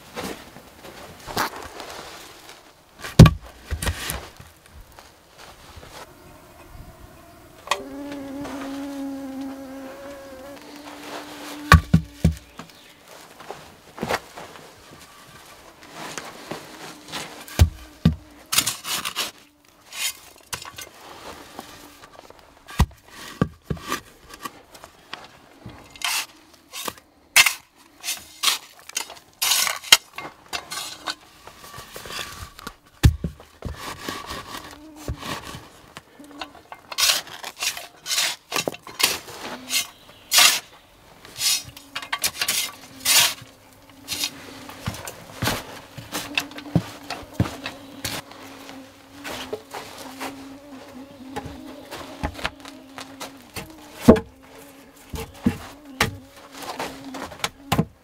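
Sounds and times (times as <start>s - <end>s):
loose sand rustling: 0.0s - 57.7s
hatchet scraping sandy earth: 1.0s - 6.1s, 7.7s - 57.8s.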